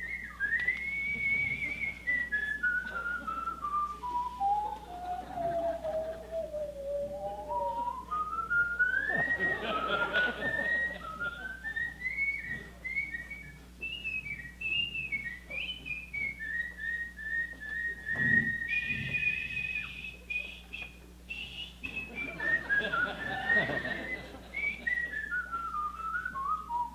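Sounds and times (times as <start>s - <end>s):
person whistling: 0.0s - 26.9s.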